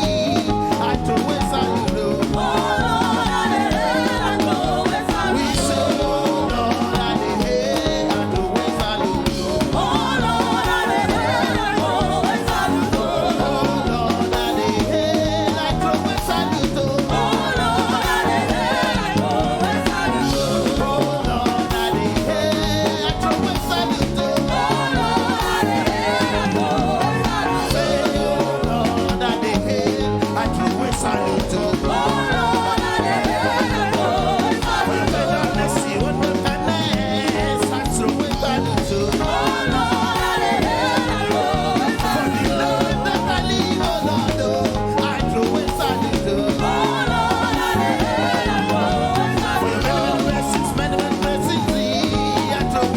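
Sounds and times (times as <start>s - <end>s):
band with drum kit: 0.0s - 52.9s
voices singing: 0.0s - 52.9s.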